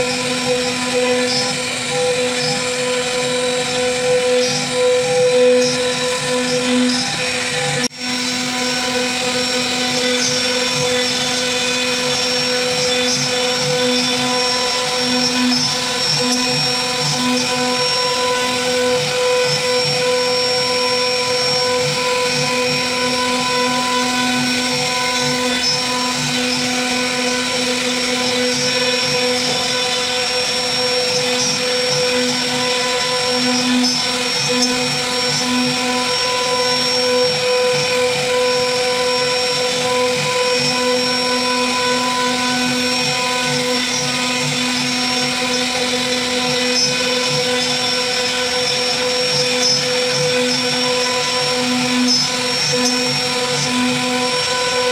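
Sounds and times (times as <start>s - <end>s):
bit cutting wood: 0.0s - 54.9s
router spindle whine: 0.0s - 54.9s.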